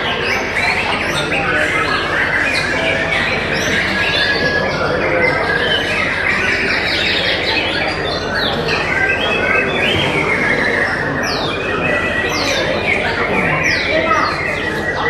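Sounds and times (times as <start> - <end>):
birds singing in chorus: 0.0 - 15.0.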